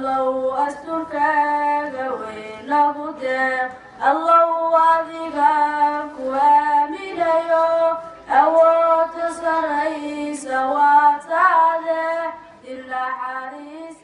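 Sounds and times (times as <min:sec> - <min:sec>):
high voice singing: 0:00.0 - 0:14.0.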